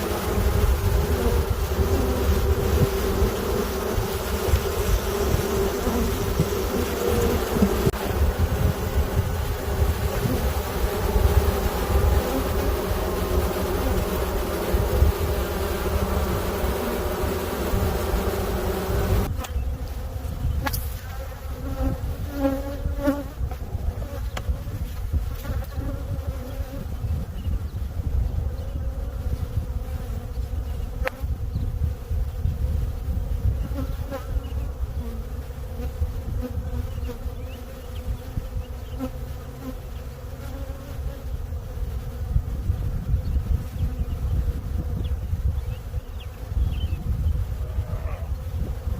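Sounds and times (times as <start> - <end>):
bees humming in a hive: 0.0 - 48.9.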